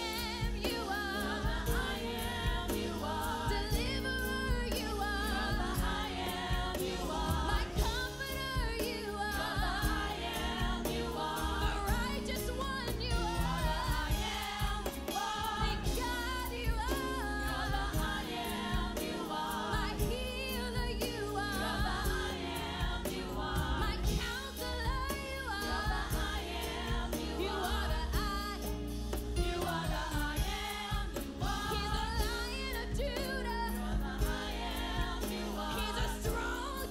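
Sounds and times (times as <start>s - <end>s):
instrumental backing: 0.0s - 36.9s
people singing gospel: 0.0s - 36.9s.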